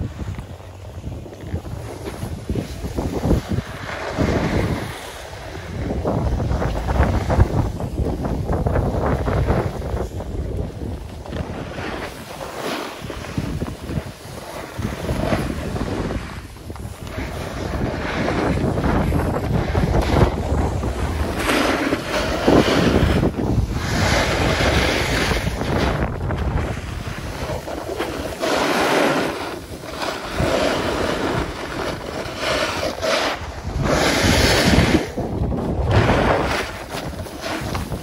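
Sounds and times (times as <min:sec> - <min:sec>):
skis scraping over snow: 0:00.0 - 0:38.0
wind rushing over microphone: 0:00.0 - 0:38.0.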